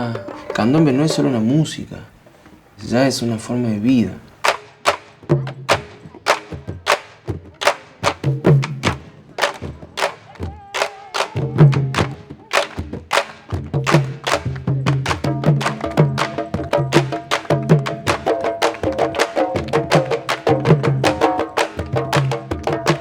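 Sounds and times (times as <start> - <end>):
drumming with stick clicks: 4.4 - 23.0.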